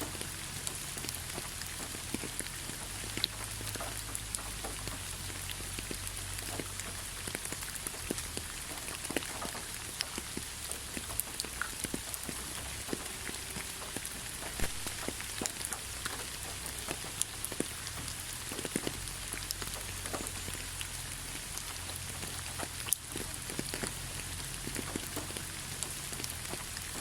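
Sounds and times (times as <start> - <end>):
raindrops ticking on a surface: 0.0 - 27.0
steady rainfall hiss: 0.0 - 27.0.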